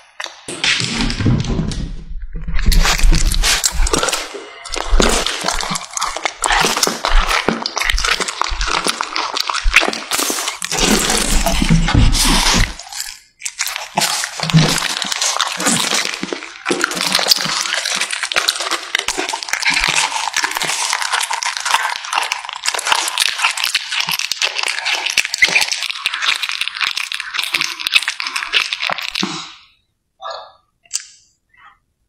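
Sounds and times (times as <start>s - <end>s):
cat chewing and tearing meat: 2.5s - 29.5s.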